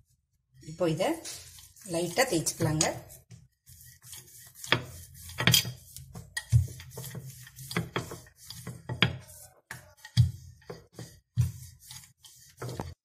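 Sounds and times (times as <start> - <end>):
rolling pin rolling dough: 0.8 - 13.0.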